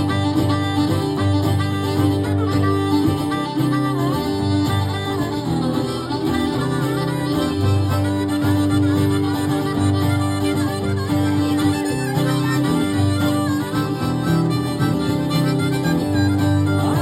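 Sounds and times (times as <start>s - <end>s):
guitar playing: 0.0s - 17.0s
harmonica solo with bending notes: 0.0s - 17.0s.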